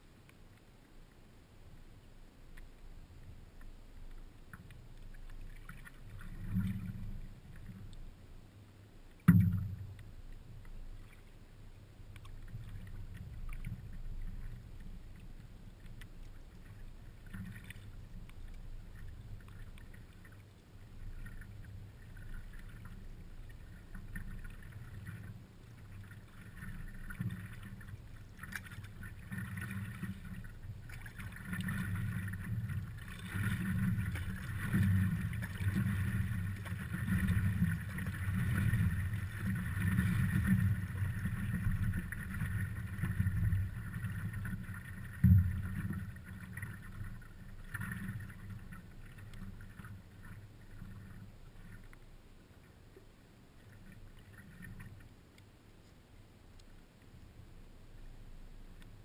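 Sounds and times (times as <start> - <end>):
water sloshing against paddleboard: 3.6 - 8.2, 9.1 - 57.2.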